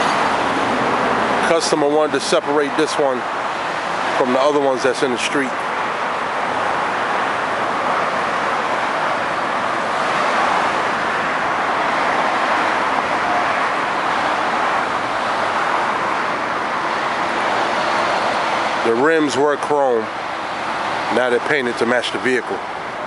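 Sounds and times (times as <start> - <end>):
road traffic hiss: 0.0 - 23.0.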